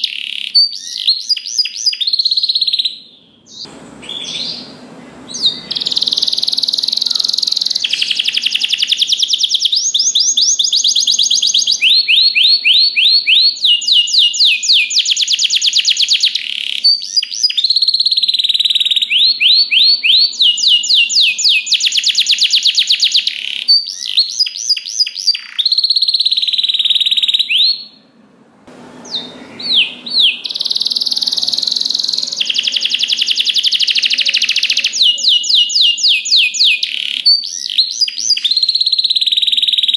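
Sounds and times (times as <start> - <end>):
canary singing trills: 0.0 - 28.1, 29.0 - 39.9.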